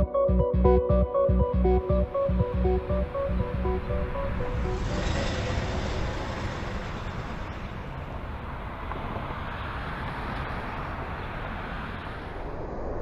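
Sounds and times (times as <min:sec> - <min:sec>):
vehicle driving past: 0:02.0 - 0:13.0.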